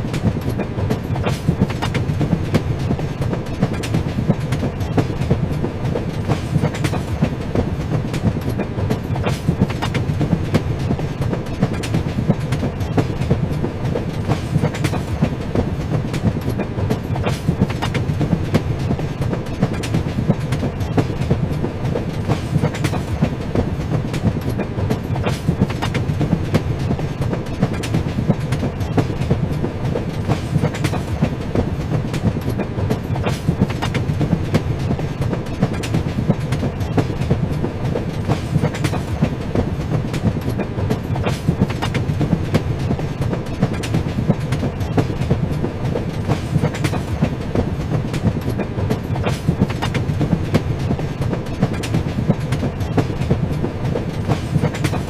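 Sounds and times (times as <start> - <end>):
train rumbling: 0.0 - 55.0
wheels clicking over rails: 0.0 - 55.0.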